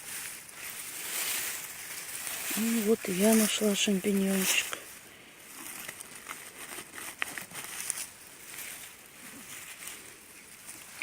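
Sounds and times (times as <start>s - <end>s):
leaf litter rustling and crackling: 0.0s - 11.0s.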